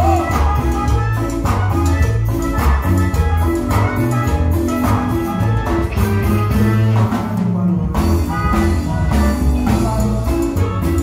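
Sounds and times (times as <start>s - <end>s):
bass and drum beat: 0.0s - 11.0s
guitar: 0.0s - 11.0s
live band playing latin music: 0.0s - 11.0s.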